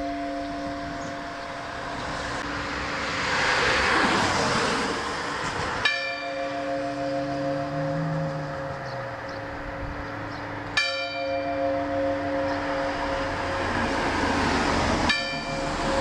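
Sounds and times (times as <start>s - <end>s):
church bell ringing: 0.0s - 3.0s, 5.8s - 16.0s
vehicle passing: 0.0s - 16.0s.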